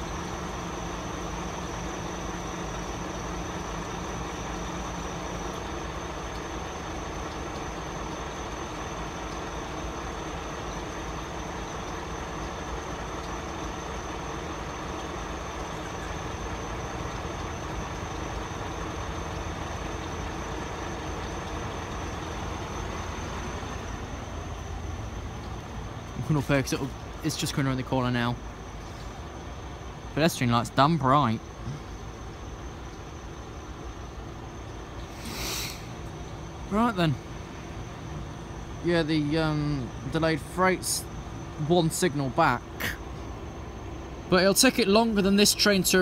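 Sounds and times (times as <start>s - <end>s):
vehicle engine idling: 0.0s - 46.0s.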